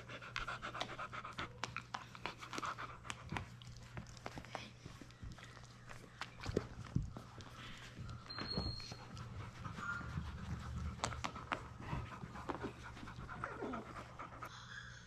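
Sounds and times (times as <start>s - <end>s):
dog panting: 0.0s - 14.5s.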